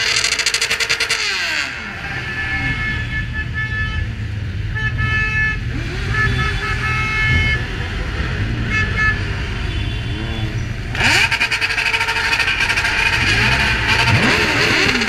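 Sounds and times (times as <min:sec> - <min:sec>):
motorcycle engines rumbling: 0:00.0 - 0:15.0
vehicle horns honking: 0:00.0 - 0:15.0.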